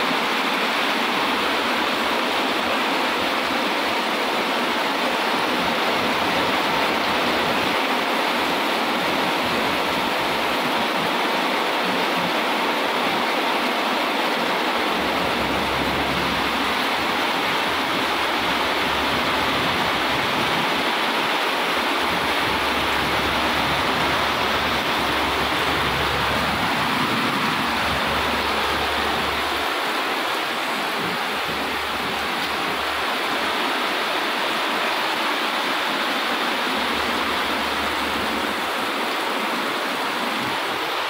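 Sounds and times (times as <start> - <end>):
steady rushing noise: 0.0 - 41.0.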